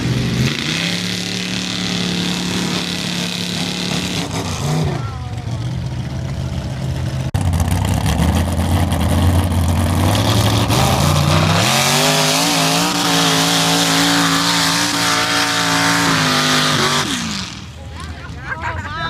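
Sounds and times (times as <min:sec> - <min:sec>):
truck engine revving: 0:00.0 - 0:18.4.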